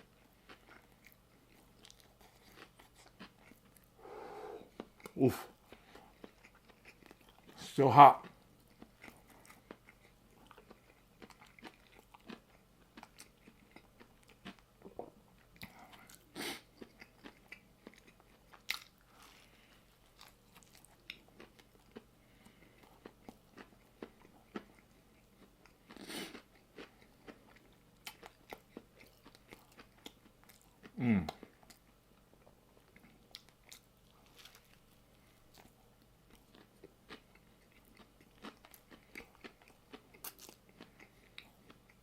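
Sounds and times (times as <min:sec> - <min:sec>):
chewing crunchy food: 0:00.0 - 0:04.0, 0:04.7 - 0:42.0.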